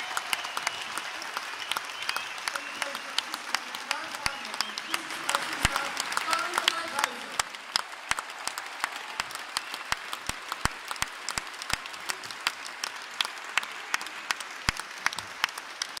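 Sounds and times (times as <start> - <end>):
audience applauding: 0.0 - 16.0
loud close hand claps: 0.0 - 16.0.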